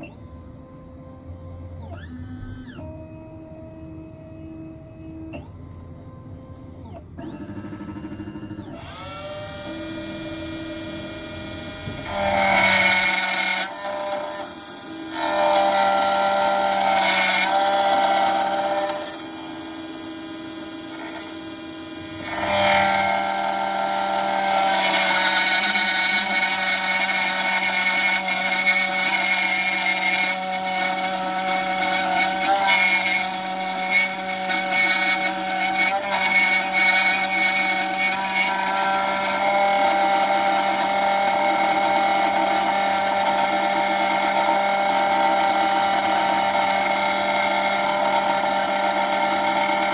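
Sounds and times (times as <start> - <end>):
key-cutting machine whining: 0.0 - 49.9.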